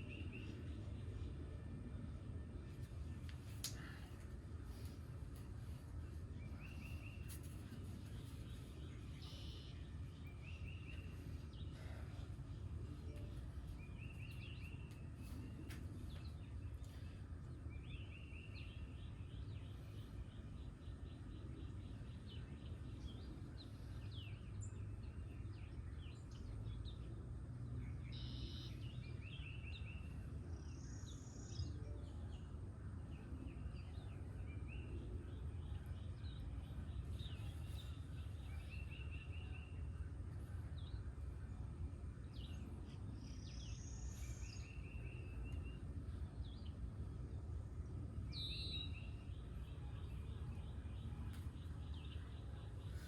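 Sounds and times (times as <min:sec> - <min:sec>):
songbirds singing: 0:00.0 - 0:53.0
steady low rumble: 0:00.0 - 0:53.0.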